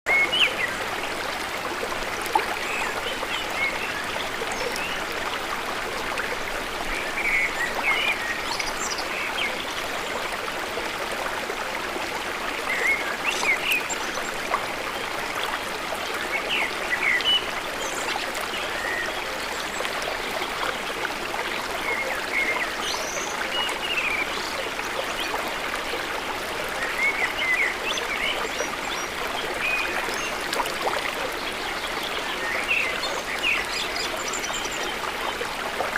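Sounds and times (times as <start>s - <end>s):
stream water flowing: 0.1s - 35.9s.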